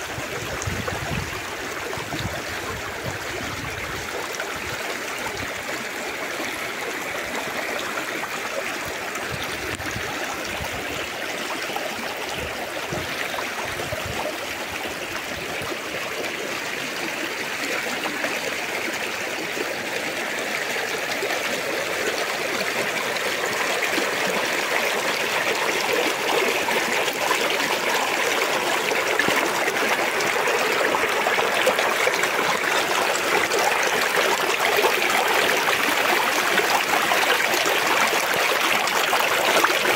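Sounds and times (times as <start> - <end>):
river rushing over stones: 7.1 - 39.9.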